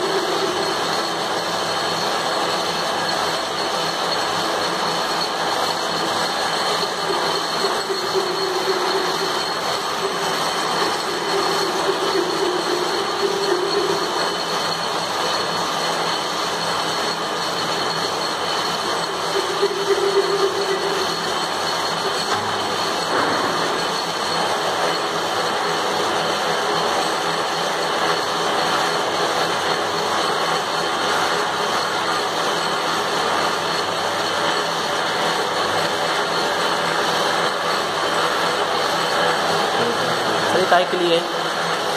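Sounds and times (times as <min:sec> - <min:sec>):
metal lathe running with whine: 0:00.0 - 0:41.9.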